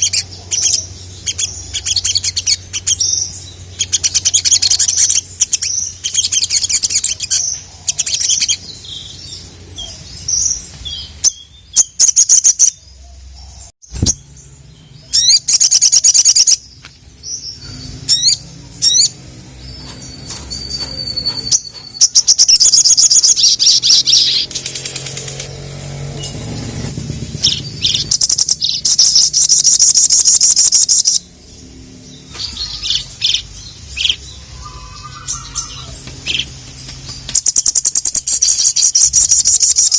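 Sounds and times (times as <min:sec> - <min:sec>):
bird chattering trills: 0:00.0 - 0:14.2, 0:17.2 - 0:39.9.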